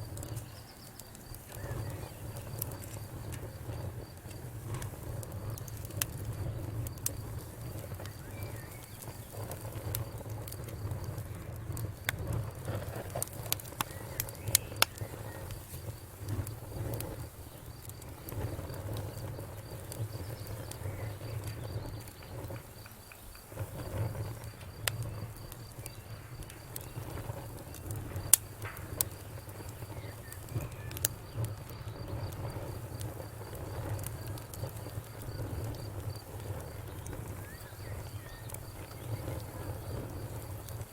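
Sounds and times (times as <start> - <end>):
sharp pops and snaps: 0.0 - 40.9
wood fire crackling: 0.0 - 40.9.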